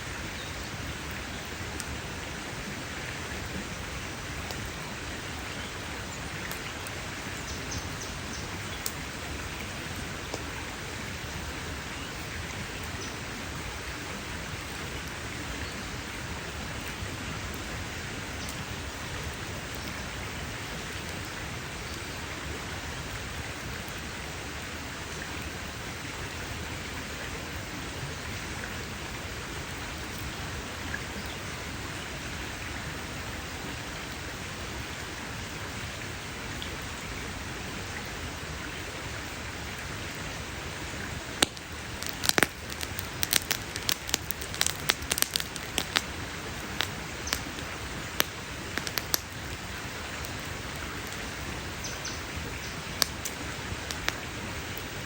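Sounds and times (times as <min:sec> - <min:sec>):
campfire hissing and crackling: 0:00.0 - 0:55.0.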